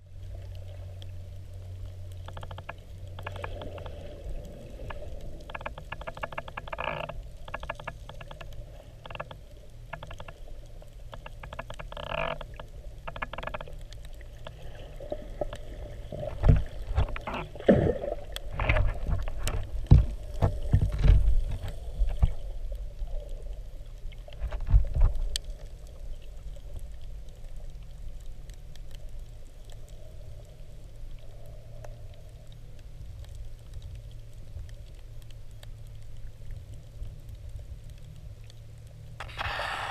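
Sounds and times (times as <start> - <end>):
underwater rumble of moving water: 0.0 - 39.9.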